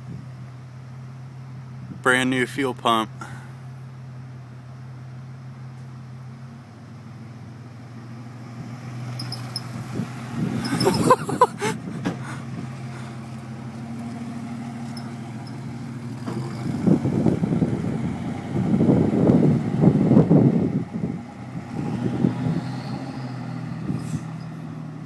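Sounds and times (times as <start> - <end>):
truck engine revving: 2.8 - 25.0.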